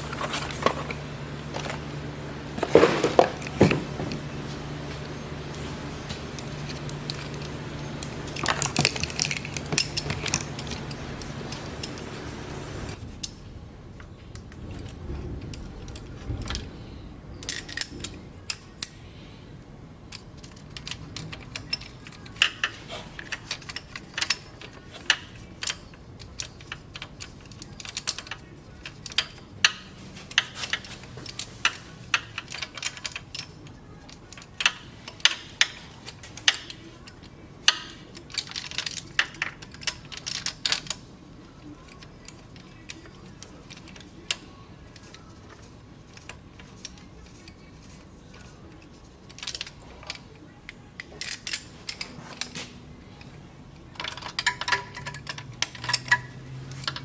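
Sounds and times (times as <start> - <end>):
small metal tools clinking: 0.0 - 13.5, 14.7 - 19.0, 20.1 - 57.0.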